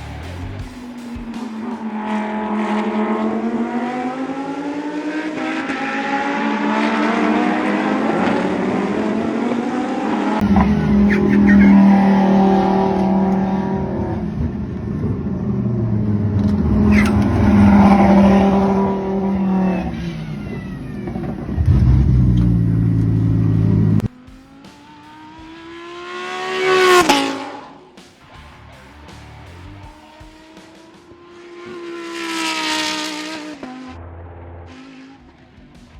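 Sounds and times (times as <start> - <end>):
race car engines passing: 0.0 - 35.9
single race car revving past: 1.6 - 24.1, 25.5 - 27.9, 31.1 - 35.2.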